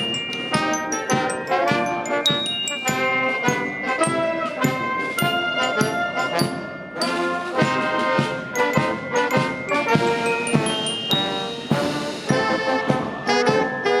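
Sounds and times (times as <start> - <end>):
brass playing a march: 0.0 - 14.0
steady drum beat: 0.0 - 14.0.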